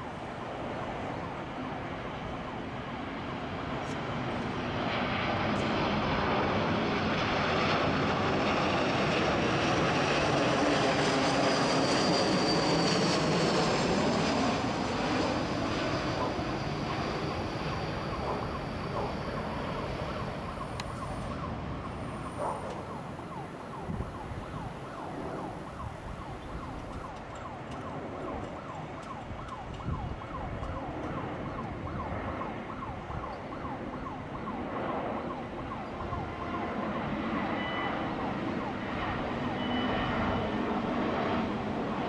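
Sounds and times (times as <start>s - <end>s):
jet engine rumble: 0.0s - 34.6s
siren wail: 0.0s - 42.0s.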